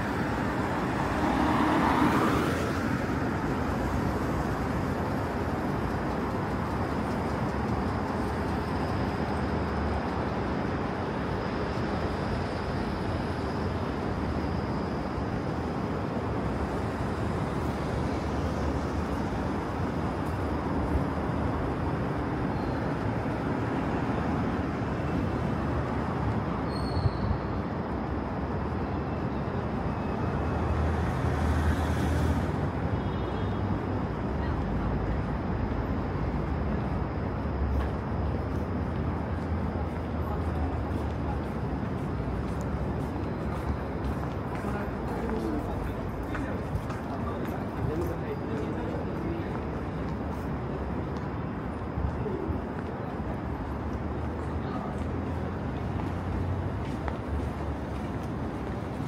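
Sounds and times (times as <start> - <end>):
street traffic hum: 0.0 - 59.0.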